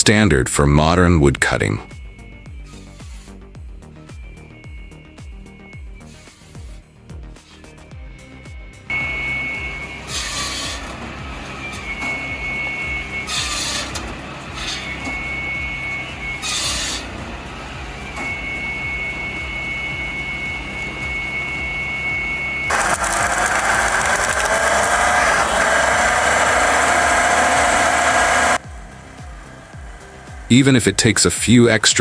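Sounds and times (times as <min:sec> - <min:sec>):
harsh wood cutting noise: 0:00.0 - 0:32.0
wood-cutting machine whine: 0:00.0 - 0:32.0.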